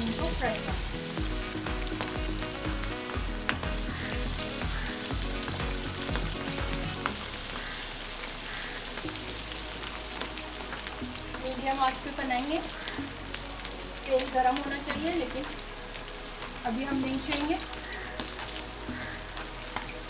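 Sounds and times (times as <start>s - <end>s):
chicken wings deep-frying in oil: 0.0s - 20.0s.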